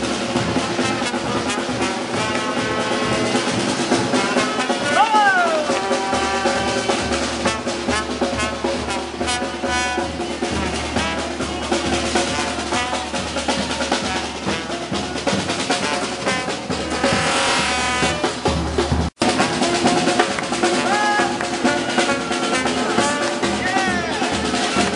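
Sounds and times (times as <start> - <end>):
snare and bass drum beating: 0.0 - 24.9
trombone: 0.0 - 24.9
saxophone: 0.8 - 24.9.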